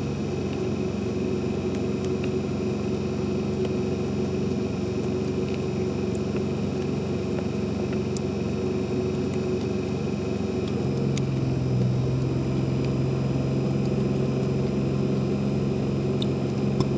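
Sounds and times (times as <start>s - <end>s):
low engine-like hum: 0.0s - 16.9s.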